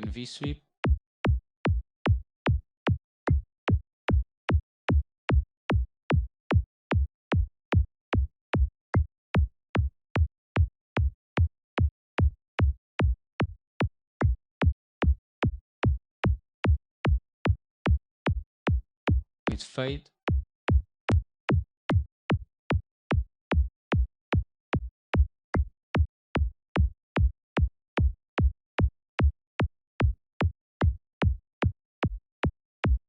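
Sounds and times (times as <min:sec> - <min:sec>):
synthesized kick drum: 0:00.0 - 0:33.0.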